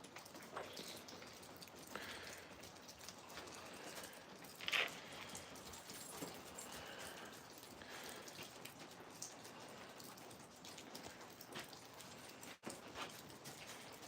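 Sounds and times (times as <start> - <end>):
freezing rain pattering: 0.0 - 14.0.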